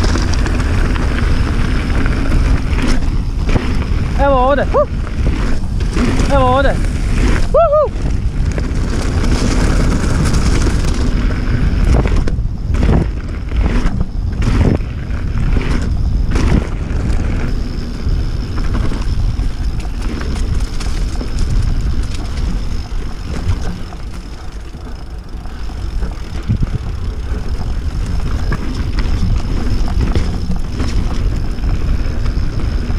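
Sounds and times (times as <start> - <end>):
bike tyres rolling over gravel: 0.0 - 32.9
wind buffeting microphone: 0.0 - 32.9.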